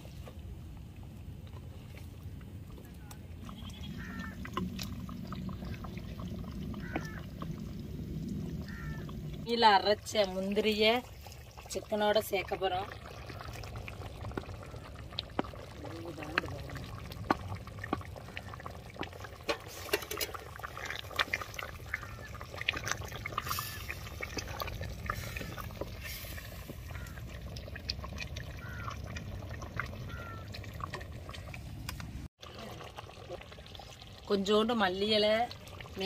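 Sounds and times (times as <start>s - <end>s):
gravy bubbling in a pan: 0.0s - 36.0s.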